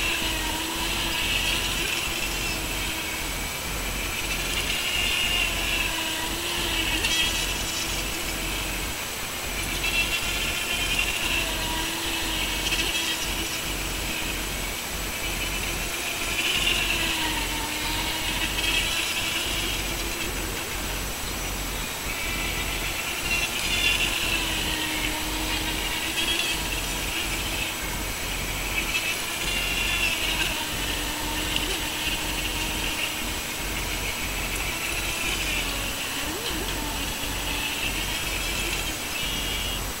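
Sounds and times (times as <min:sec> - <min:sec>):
model speedboat motor whine: 0:00.0 - 0:40.0.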